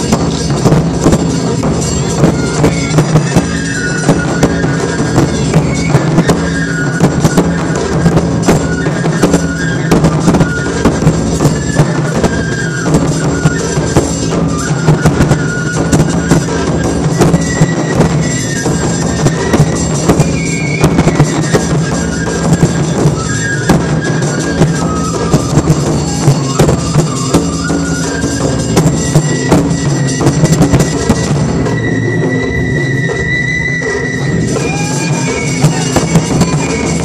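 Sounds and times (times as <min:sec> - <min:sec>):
taiko drum ensemble playing: 0:00.0 - 0:37.0.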